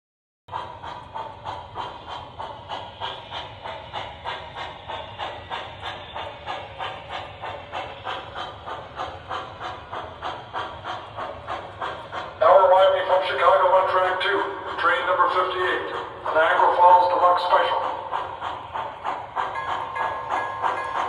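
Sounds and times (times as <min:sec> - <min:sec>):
model train steam chuffs: 0:00.5 - 0:21.0.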